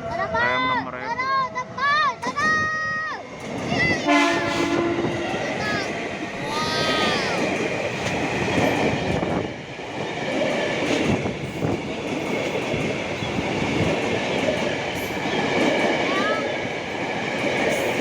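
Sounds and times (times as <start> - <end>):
train wheels rumbling and clattering: 1.3 - 18.0.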